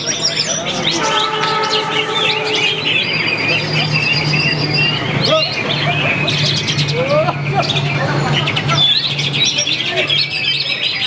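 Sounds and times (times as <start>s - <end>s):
caged songbirds chorus: 0.0s - 11.0s.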